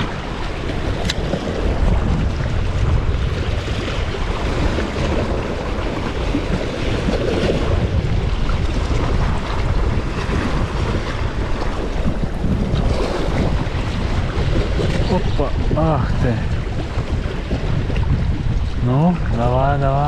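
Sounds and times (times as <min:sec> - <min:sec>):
sea waves: 0:00.0 - 0:20.0
wind buffeting microphone: 0:00.0 - 0:20.0.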